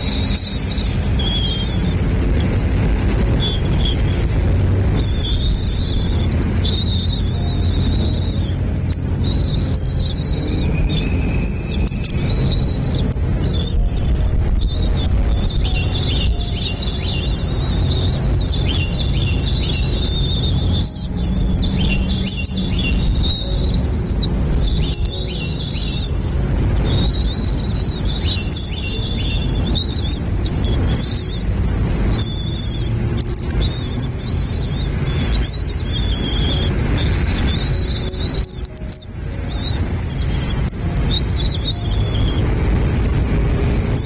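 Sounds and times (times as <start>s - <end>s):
small birds chirping: 0.0s - 44.0s
steady low rumble: 0.0s - 44.0s.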